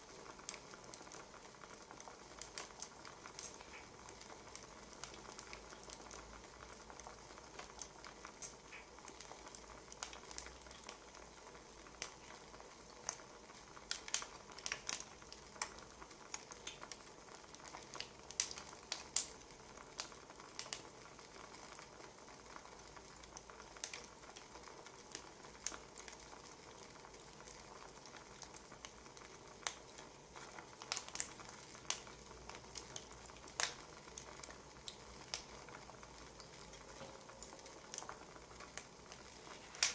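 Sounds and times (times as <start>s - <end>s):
faint fire hiss: 0.0s - 39.9s
wood fire crackling and popping: 0.0s - 39.9s.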